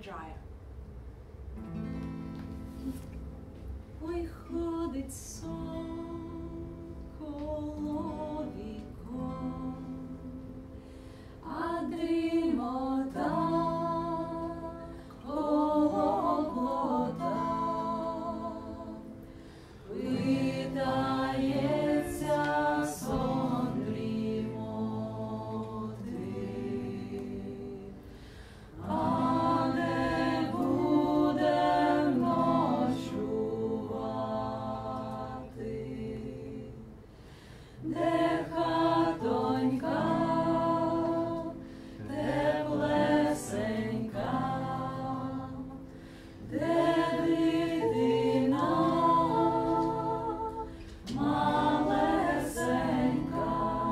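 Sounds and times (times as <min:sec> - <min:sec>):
voices singing in harmony: 0:04.0 - 0:10.6, 0:11.4 - 0:37.1, 0:37.8 - 0:53.9.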